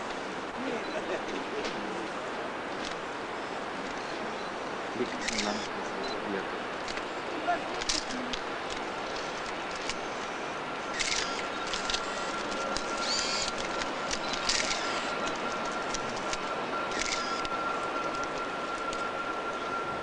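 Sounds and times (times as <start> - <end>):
thin high whine: 3.3 - 20.0.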